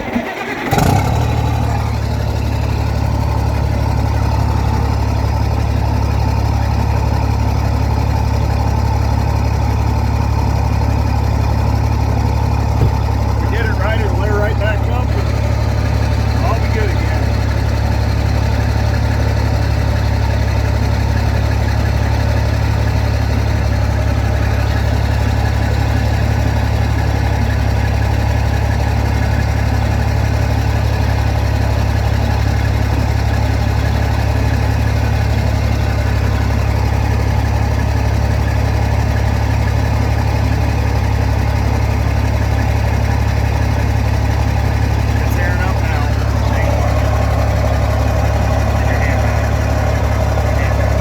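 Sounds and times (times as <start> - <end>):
diesel truck engine idling: 0.0 - 51.0.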